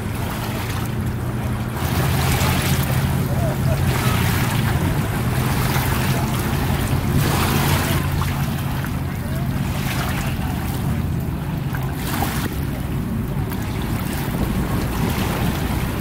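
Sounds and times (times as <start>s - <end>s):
wavelets lapping on stony shore: 0.0s - 16.0s
wind rumble on microphone: 0.0s - 16.0s.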